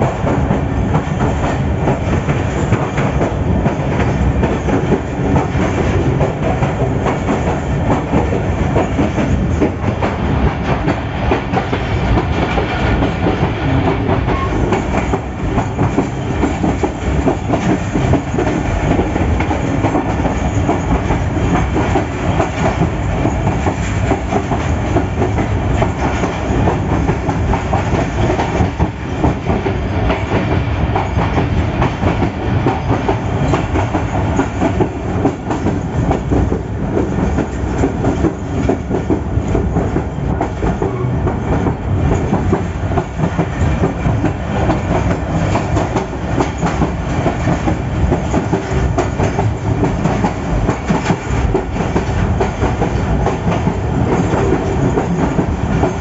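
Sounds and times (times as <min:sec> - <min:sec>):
locomotive engine and wheels rumbling: 0:00.0 - 0:56.0.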